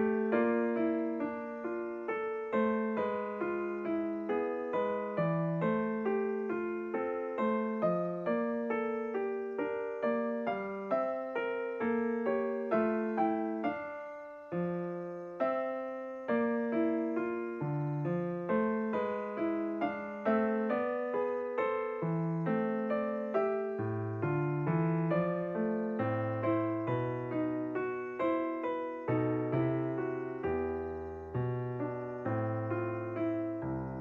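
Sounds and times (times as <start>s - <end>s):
calm piano music: 0.0s - 34.0s.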